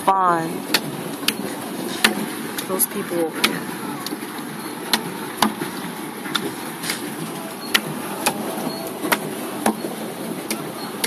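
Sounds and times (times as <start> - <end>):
paddle boat churning water: 0.0 - 11.0.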